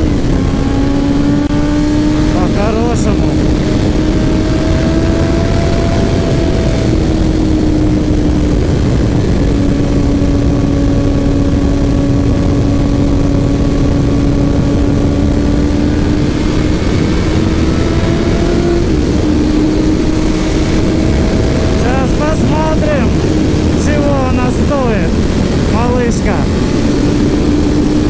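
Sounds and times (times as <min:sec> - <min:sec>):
motorcycle engine at high revs: 0:00.0 - 0:28.0
wind rushing: 0:00.0 - 0:28.0.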